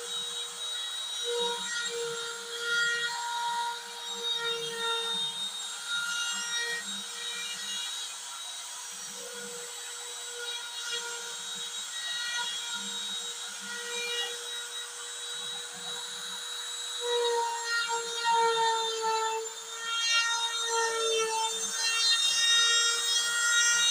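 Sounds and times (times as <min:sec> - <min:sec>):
router spindle whining: 0:00.0 - 0:23.9.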